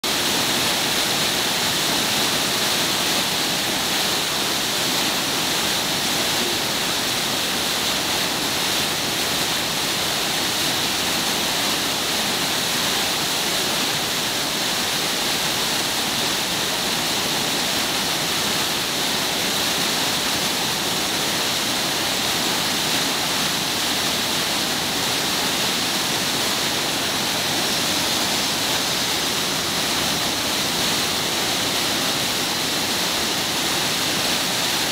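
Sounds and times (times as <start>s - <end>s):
river water rushing over weir: 0.0s - 34.9s.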